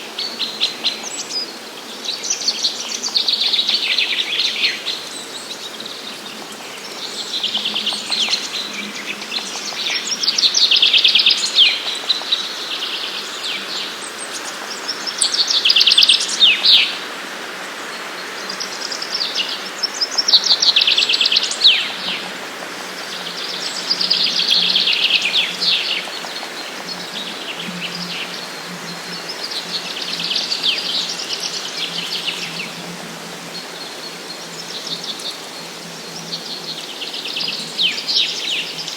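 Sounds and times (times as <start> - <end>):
songbirds trilling: 0.0 - 38.9
steady background hiss: 0.0 - 38.9.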